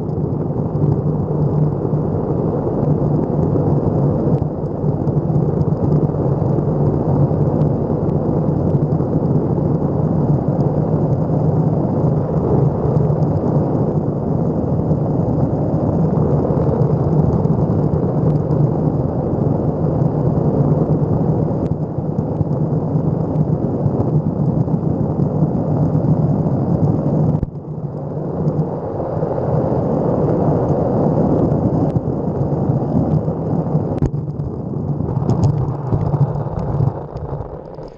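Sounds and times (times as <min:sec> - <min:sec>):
skateboard wheels rolling on pavement: 0:00.0 - 0:37.9
wind on microphone: 0:00.0 - 0:37.9.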